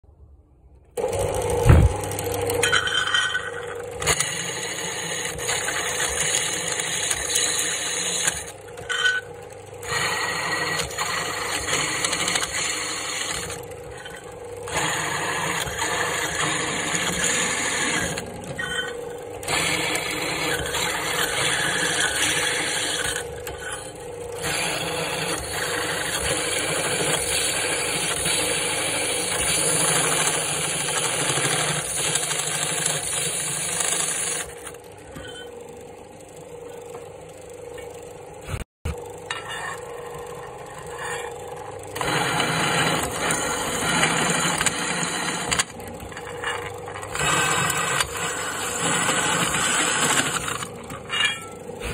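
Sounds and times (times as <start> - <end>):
drill press grinding through metal: 1.0 - 36.8, 37.5 - 51.9.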